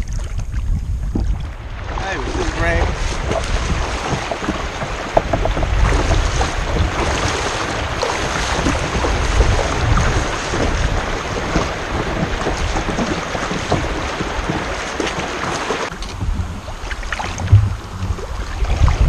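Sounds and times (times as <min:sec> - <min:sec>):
wind rumbling on microphone: 0:00.0 - 0:19.0
kayak hull scraping over stones: 0:01.2 - 0:19.0.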